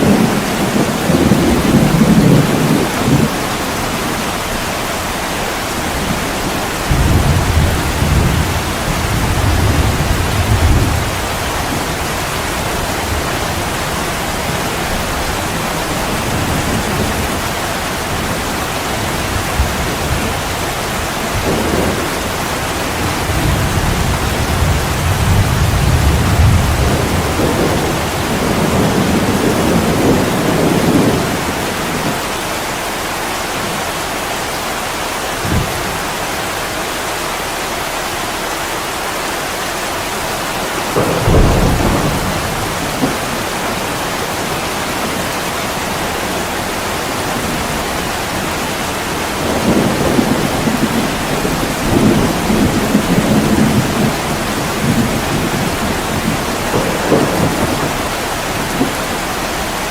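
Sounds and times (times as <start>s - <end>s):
low rolling thunder: 0.0s - 33.8s, 40.0s - 59.9s
heavy rain on a window: 0.0s - 59.9s.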